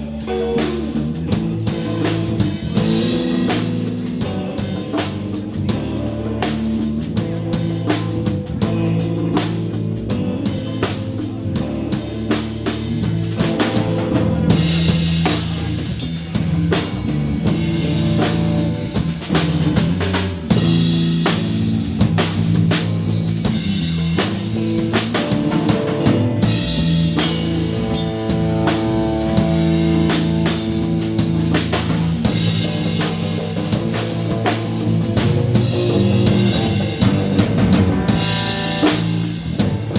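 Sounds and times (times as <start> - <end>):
blues guitar: 0.0 - 39.9
drum kit steady beat: 0.0 - 39.9.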